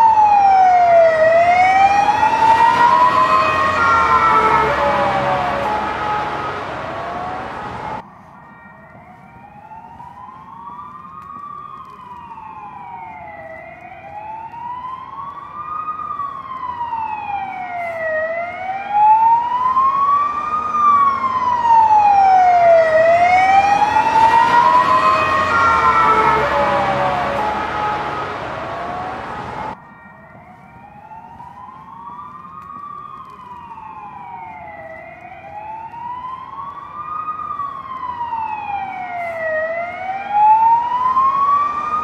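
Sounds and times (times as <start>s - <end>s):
ambulance siren wailing: 0.0s - 42.0s
dense siren: 0.0s - 42.0s.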